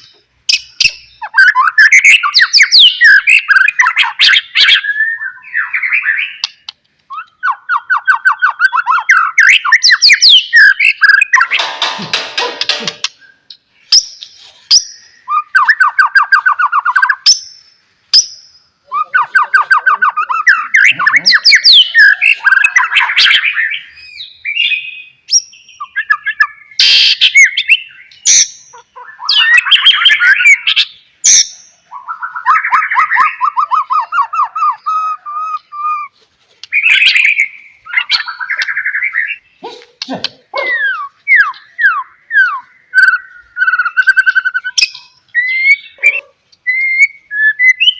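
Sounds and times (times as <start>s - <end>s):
songbird singing trills and whistles: 0.0s - 11.6s, 13.0s - 47.9s.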